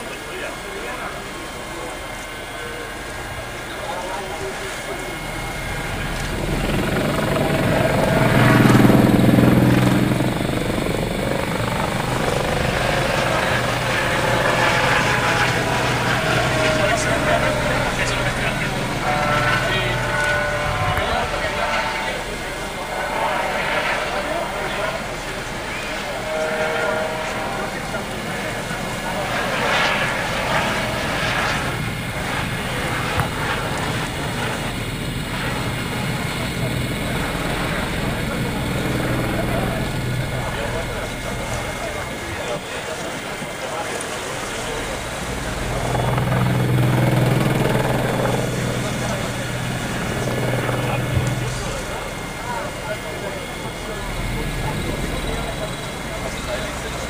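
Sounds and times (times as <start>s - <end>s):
helicopter engine and rotor hum: 0.0s - 57.0s.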